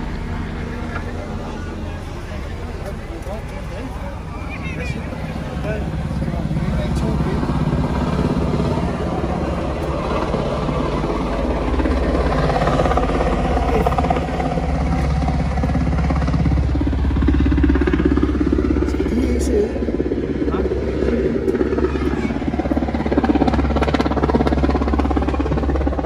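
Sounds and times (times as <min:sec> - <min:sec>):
loud engine drone: 0:00.0 - 0:26.0.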